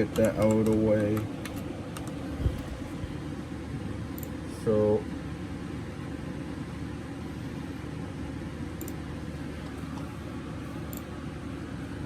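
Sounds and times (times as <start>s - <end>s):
room noise like fan running: 0.0s - 12.0s.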